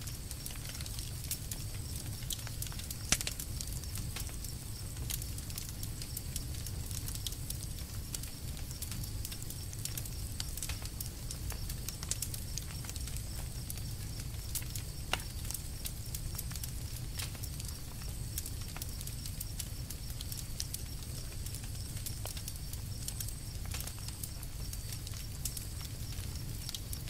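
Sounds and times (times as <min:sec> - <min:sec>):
campfire crackling and popping: 0:00.0 - 0:27.0
low rumble of flames: 0:00.0 - 0:27.0.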